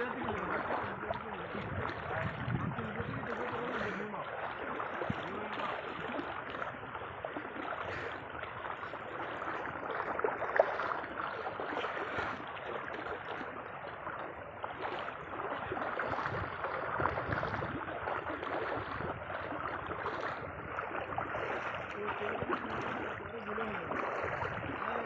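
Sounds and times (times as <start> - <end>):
floodwater rushing: 0.0 - 25.0
water splashes and gurgles: 0.0 - 25.0.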